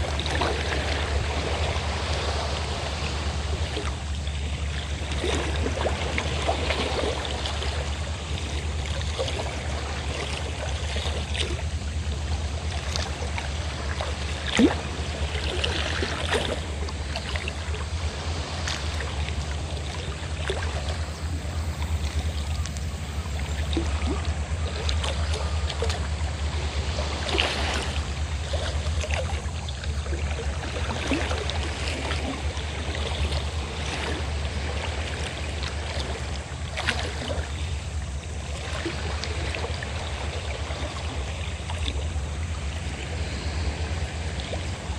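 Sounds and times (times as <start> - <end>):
boat engine droning: 0.0 - 44.9
waves splashing and lapping: 0.0 - 44.9.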